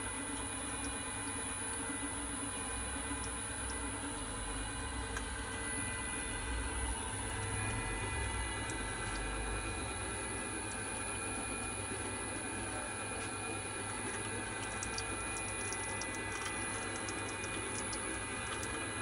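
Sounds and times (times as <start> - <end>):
oil press motor hum: 0.0 - 19.0.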